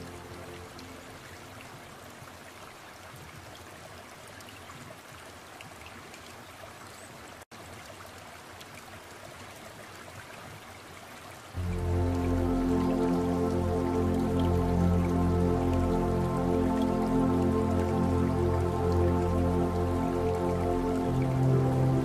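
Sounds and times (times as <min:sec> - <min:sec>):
trickle of running water: 0:00.0 - 0:22.0.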